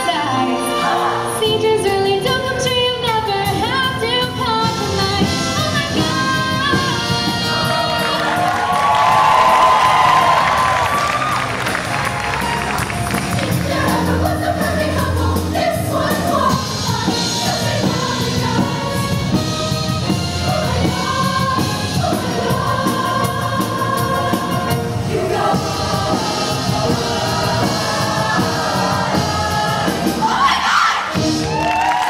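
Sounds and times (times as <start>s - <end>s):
choir singing in harmony: 0.0s - 2.5s, 4.6s - 31.5s
instrumental accompaniment with beat: 3.4s - 32.0s.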